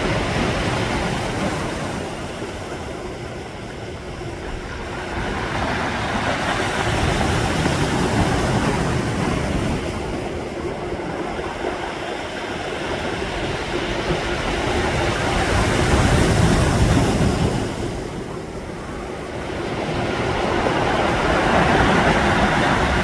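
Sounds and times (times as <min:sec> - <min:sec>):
sea waves washing onto shore: 0:00.0 - 0:23.0.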